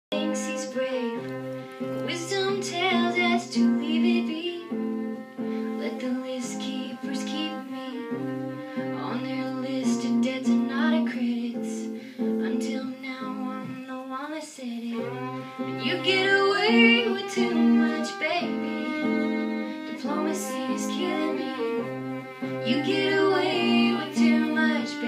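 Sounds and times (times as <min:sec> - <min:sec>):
guitar accompaniment: 0:00.1 - 0:14.0, 0:14.9 - 0:25.0
violin melody with vibrato: 0:00.1 - 0:14.0, 0:14.9 - 0:25.0.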